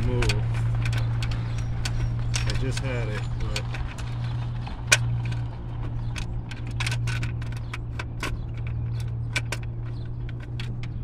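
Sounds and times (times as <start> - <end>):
plastic and metal clicks: 0.0 - 11.0
steady low hum: 0.0 - 11.0.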